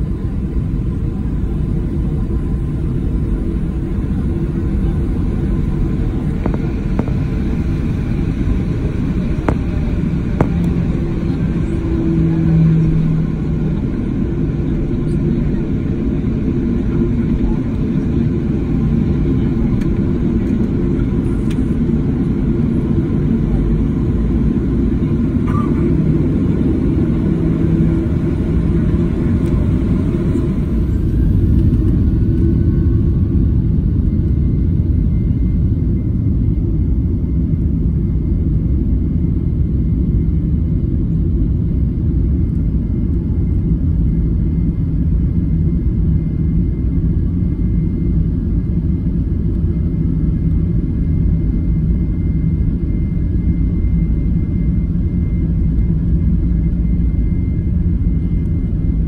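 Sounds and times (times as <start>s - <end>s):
jet engine rumble in cabin: 0.0s - 59.0s.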